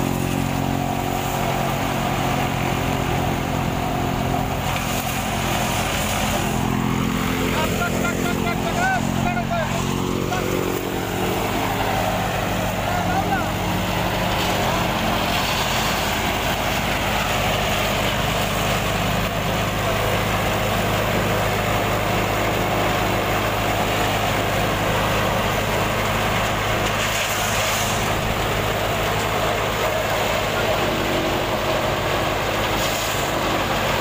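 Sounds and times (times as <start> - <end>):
chaff cutter chopping stalks: 0.0 - 34.0
engine drone: 0.0 - 34.0.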